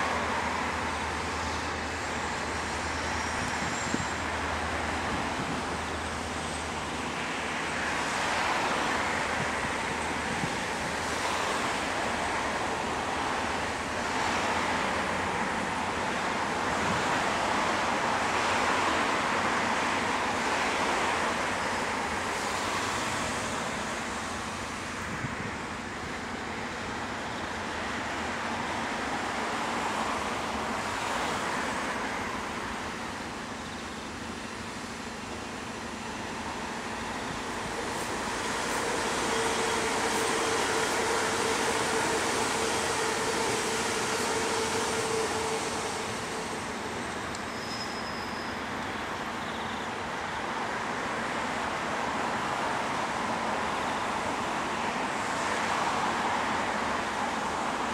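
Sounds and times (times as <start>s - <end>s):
diesel locomotive engine drone: 0.0s - 57.9s
freight wagons rumbling over track: 0.0s - 57.9s.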